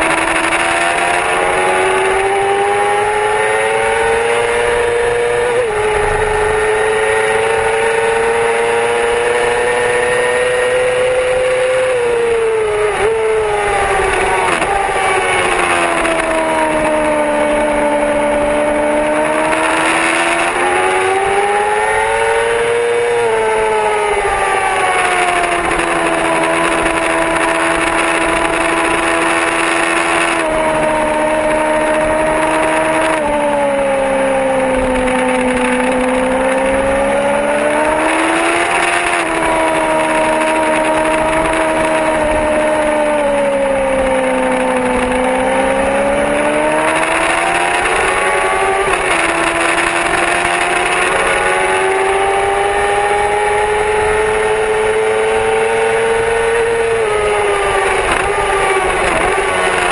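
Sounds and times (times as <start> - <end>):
gear shifts: 0.0 - 59.9
motorcycle engine at high revs: 0.0 - 59.9.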